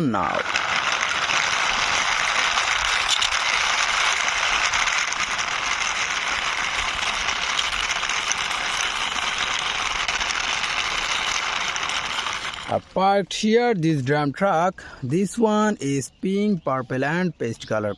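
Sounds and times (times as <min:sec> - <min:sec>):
toy truck wheels rolling: 0:00.0 - 0:16.1.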